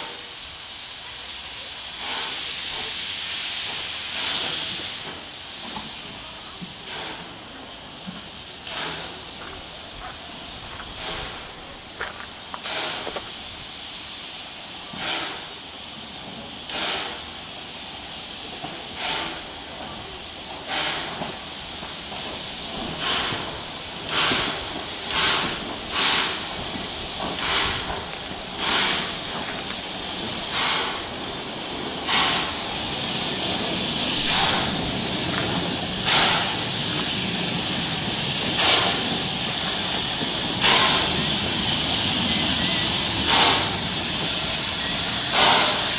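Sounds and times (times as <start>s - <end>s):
steady steam hiss: 0.0s - 45.9s
steam locomotive chuffing: 0.0s - 45.9s.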